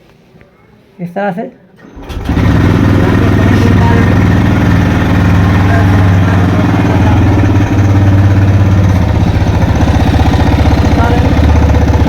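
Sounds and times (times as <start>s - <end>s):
motorcycle engine idling: 2.0s - 12.0s.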